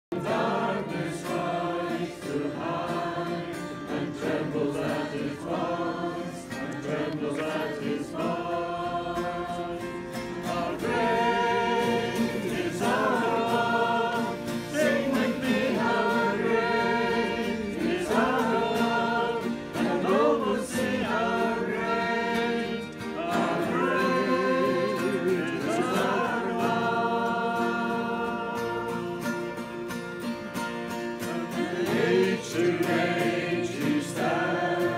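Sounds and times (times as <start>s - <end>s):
group of people singing: 0.1s - 30.0s, 30.9s - 34.9s.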